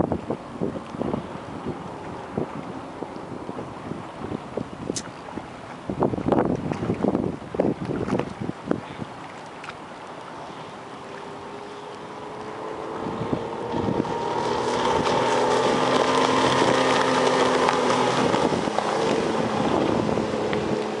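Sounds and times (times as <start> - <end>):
outboard motor running fast: 0.0 - 21.0.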